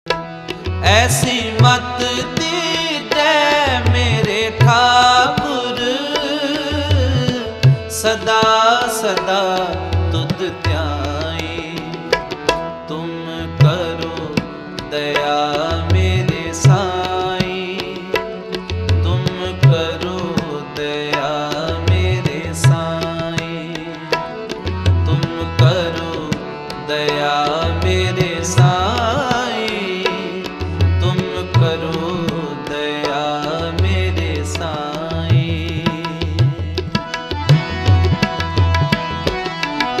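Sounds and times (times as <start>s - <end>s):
tabla beat: 0.1s - 40.0s
devotional melodic line: 0.2s - 40.0s.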